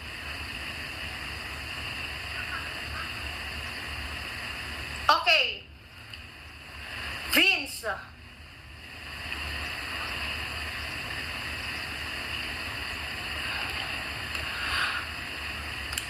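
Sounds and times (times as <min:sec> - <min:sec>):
low hum: 0:00.0 - 0:16.0
room noise hiss: 0:00.0 - 0:16.0.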